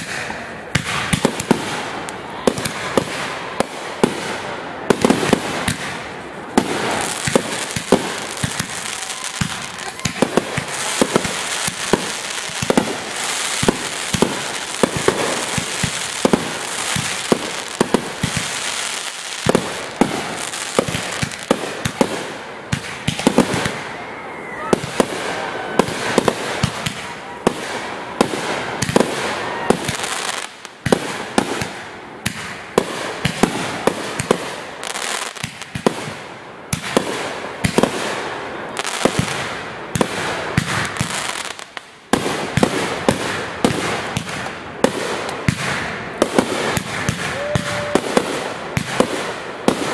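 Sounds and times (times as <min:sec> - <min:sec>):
fireworks crackle: 0:00.0 - 0:24.0, 0:24.6 - 0:49.9
fireworks bangs: 0:00.0 - 0:49.9.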